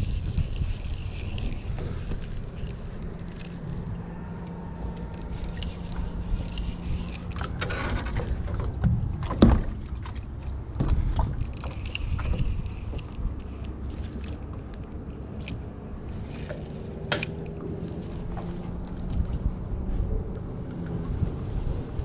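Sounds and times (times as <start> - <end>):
gear knocking and rustling: 0.0 - 20.0
steady rumble: 0.0 - 22.0.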